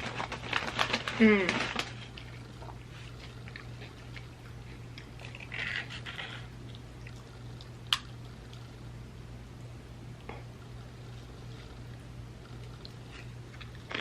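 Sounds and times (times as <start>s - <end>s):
chewing chips: 0.0s - 8.7s, 10.7s - 14.0s
low electrical hum: 0.0s - 14.0s.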